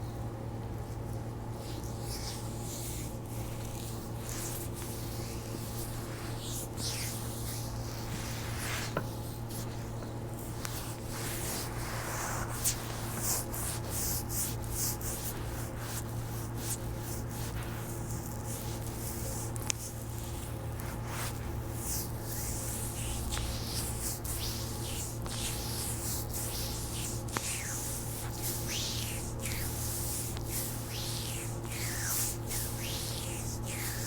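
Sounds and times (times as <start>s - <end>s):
steady low hum: 0.0s - 34.0s
hands rubbing skin: 1.5s - 34.0s.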